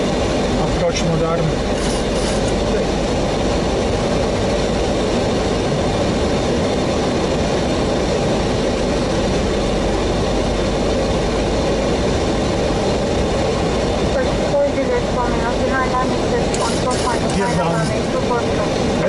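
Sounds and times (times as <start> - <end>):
aircraft engine noise: 0.0 - 19.0
rushing airflow: 0.0 - 19.0.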